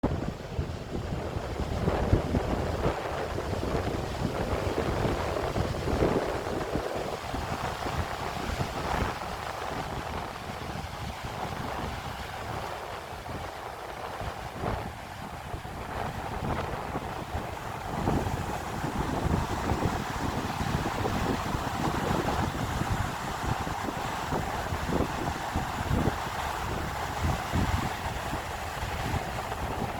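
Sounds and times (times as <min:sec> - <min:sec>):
wind buffeting microphone: 0:00.0 - 0:29.9
ocean waves: 0:00.5 - 0:29.9.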